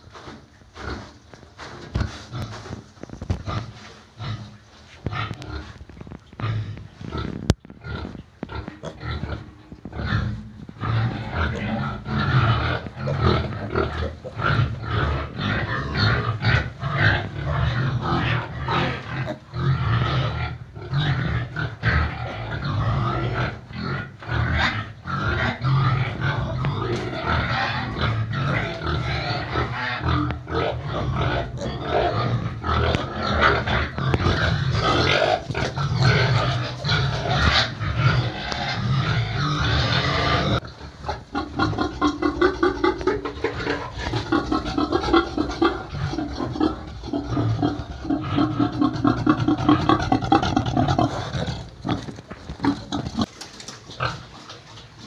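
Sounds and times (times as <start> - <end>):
piglets grunting and calling: 1.9 - 54.5.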